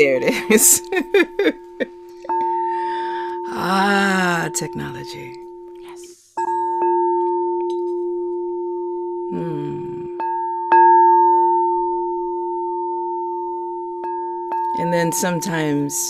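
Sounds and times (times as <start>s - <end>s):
singing bowl struck and ringing: 0.0s - 16.0s.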